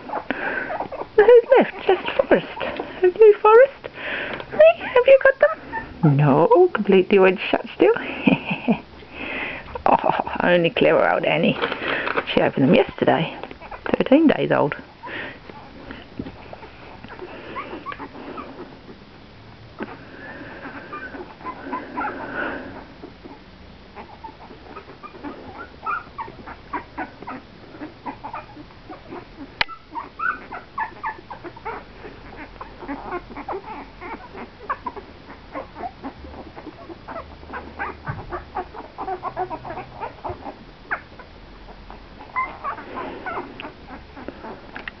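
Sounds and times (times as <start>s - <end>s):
puppies squeaking and whimpering: 0.0s - 6.4s, 11.5s - 45.0s.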